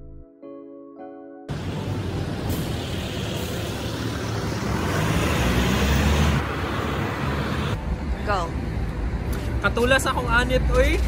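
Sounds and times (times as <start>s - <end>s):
road traffic passing: 1.5s - 11.0s.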